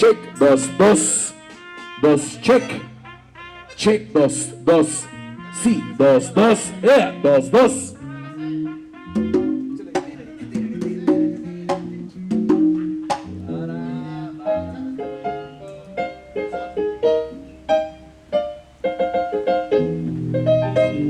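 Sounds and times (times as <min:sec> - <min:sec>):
held bass notes: 0:00.0 - 0:21.0
higher melodic notes: 0:00.0 - 0:21.0.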